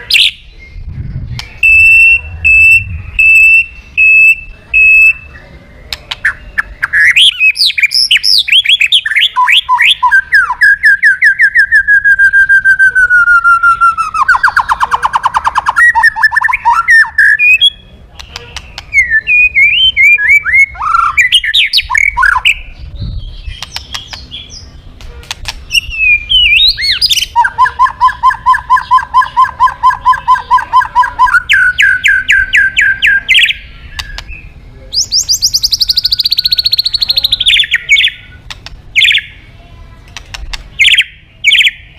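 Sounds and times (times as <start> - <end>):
bird singing trills and whistles: 0.0 - 0.9, 1.5 - 39.5, 40.2 - 41.9.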